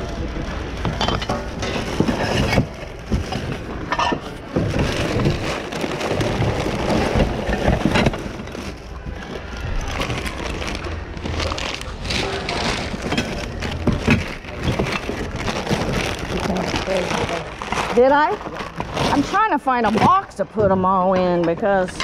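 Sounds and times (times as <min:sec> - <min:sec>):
items clattering and rustling: 0:00.0 - 0:22.0.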